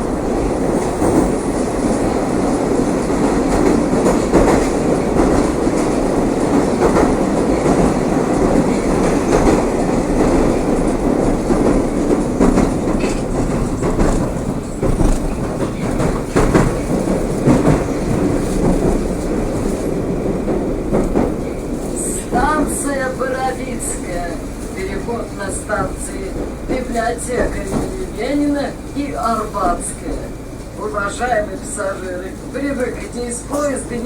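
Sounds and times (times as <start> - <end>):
rail joint clicks and knocks: 0.0 - 34.0
train wheels rumbling on rails: 0.0 - 34.0.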